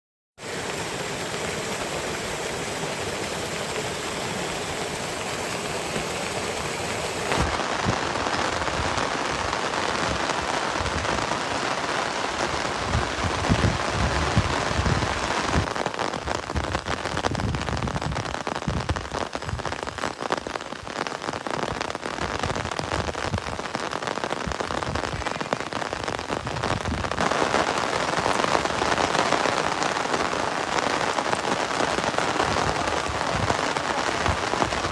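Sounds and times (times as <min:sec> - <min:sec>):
rain falling: 0:00.4 - 0:34.9.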